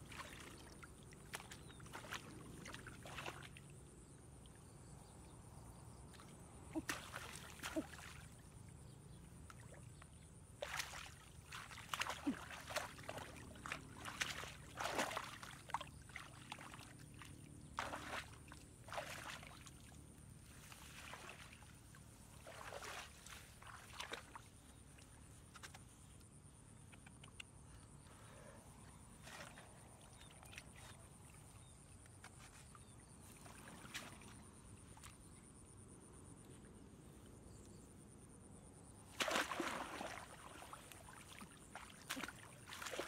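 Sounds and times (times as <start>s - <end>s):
muddy water splashing: 0.0s - 4.5s, 6.0s - 25.9s, 29.1s - 35.4s, 39.1s - 43.0s.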